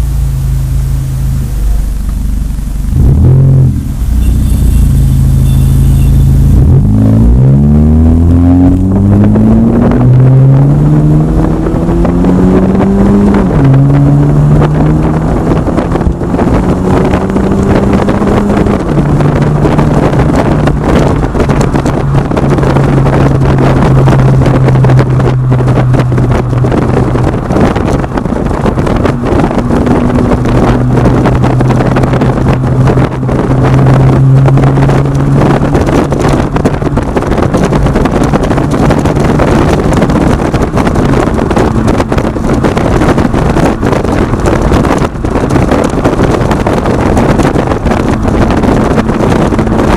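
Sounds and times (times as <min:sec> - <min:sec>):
car exhaust accelerating through gears: 0:00.0 - 0:49.9.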